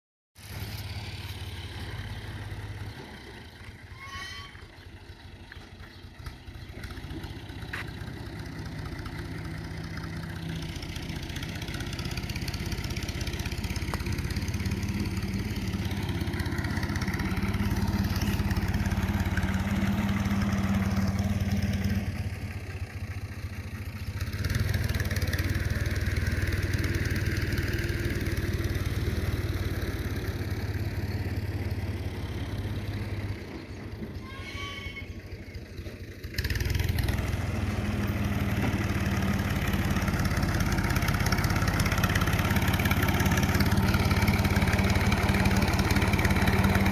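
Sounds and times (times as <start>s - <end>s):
engine humming: 0.4s - 46.9s.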